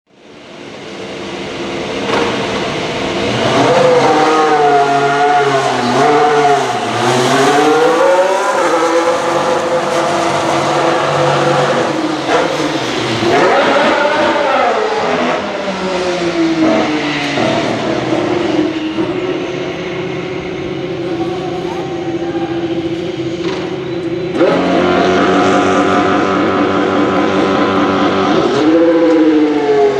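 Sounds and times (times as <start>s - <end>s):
racing car engine: 0.3s - 29.9s.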